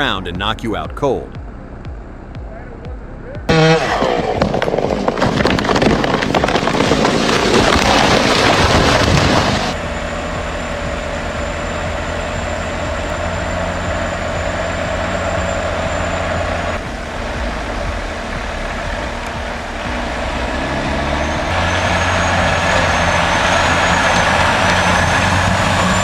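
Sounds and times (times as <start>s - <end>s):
heavy truck engine running: 0.0s - 26.0s
loud noisy rush: 3.5s - 26.0s.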